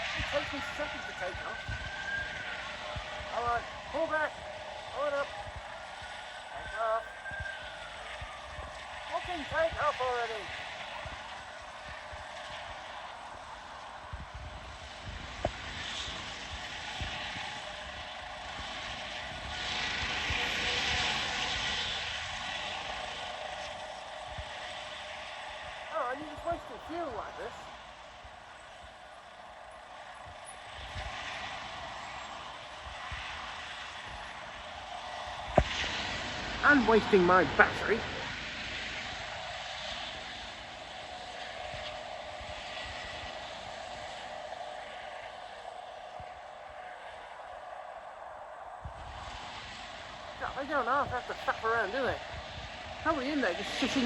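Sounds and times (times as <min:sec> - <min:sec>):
helicopter engine and rotors: 0:00.0 - 0:54.0.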